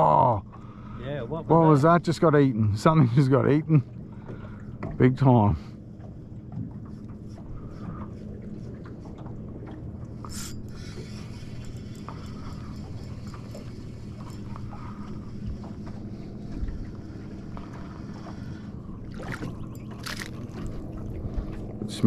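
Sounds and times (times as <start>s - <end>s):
steady low hum: 0.0s - 22.0s
water lapping against boat hull: 0.0s - 22.0s.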